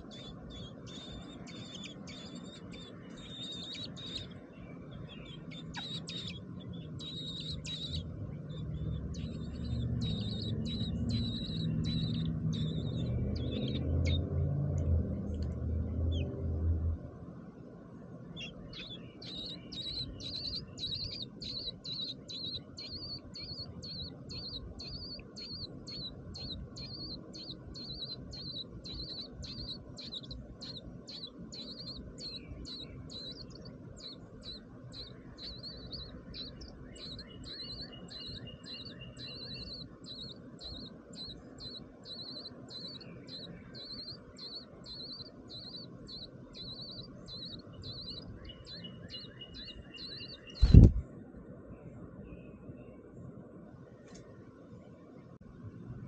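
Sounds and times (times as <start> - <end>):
small bird chirping: 0.0 - 16.7, 18.2 - 51.0.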